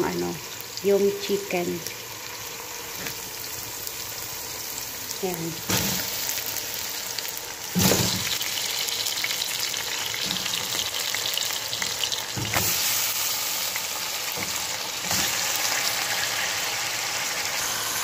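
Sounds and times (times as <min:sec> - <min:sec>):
vegetables sizzling in a pot: 0:00.0 - 0:18.0.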